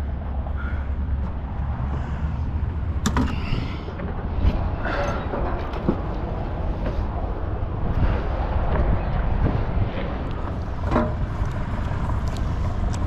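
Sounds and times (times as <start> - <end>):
wind on microphone: 0.3 - 13.0.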